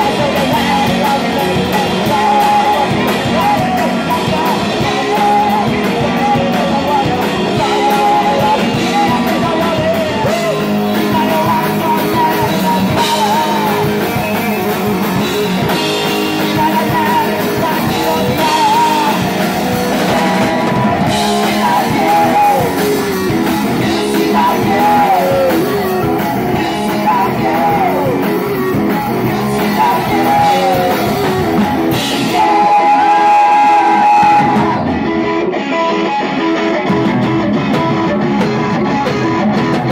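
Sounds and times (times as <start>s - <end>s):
drum kit: 0.0s - 39.9s
electric bass: 0.0s - 39.9s
electric guitar: 0.0s - 39.9s
man singing and shouting: 0.0s - 39.9s.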